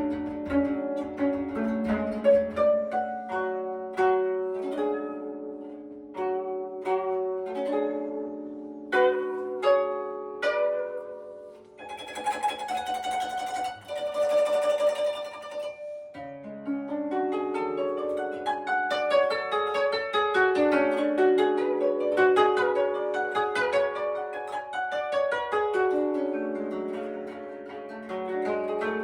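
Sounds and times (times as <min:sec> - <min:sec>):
zither plucked melody: 0:00.0 - 0:29.0.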